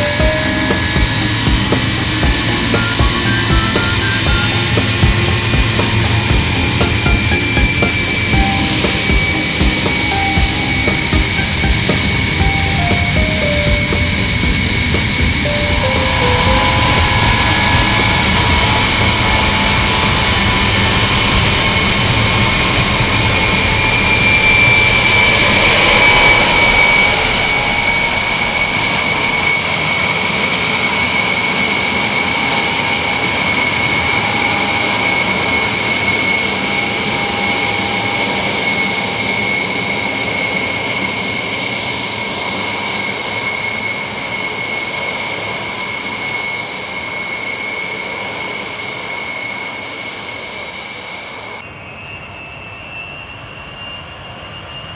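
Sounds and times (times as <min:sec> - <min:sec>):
jet engines whining and roaring: 0:00.0 - 0:54.9.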